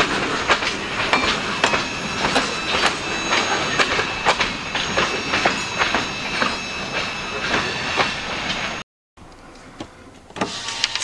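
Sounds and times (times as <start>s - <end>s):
high wheel squeal: 0.0s - 8.8s
train wheels clacking over rail joints: 0.0s - 8.8s
freight train rumble: 0.0s - 9.4s.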